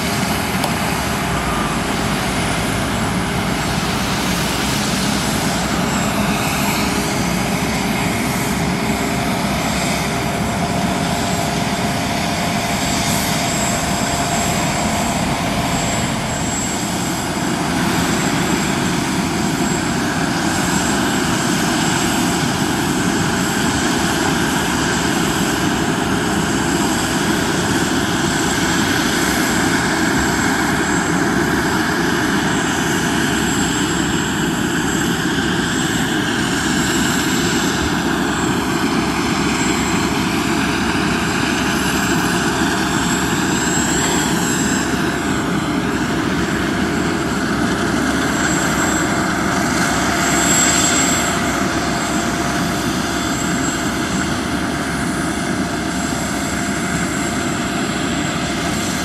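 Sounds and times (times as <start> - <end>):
aircraft tug rumbling: 0.0 - 59.0.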